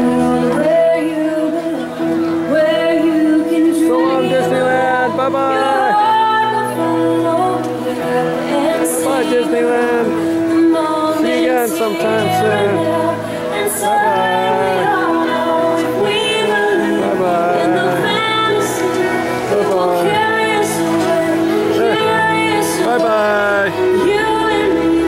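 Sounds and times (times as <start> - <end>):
song with singing voices: 0.0 - 25.0.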